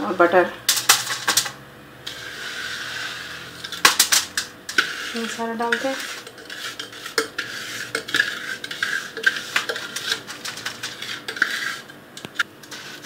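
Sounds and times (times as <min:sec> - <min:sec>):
utensil scraping and tapping bowl: 0:02.1 - 0:13.0.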